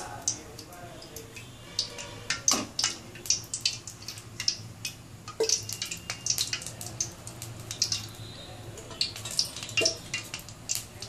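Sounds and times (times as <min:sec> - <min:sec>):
hot oil crackling and popping: 0:00.0 - 0:11.0.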